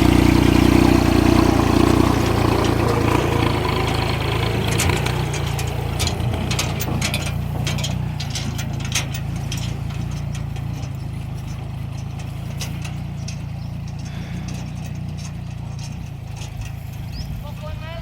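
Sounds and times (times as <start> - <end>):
sharp clicks and rattles: 0.0 - 18.0
tractor engine running: 0.0 - 18.0.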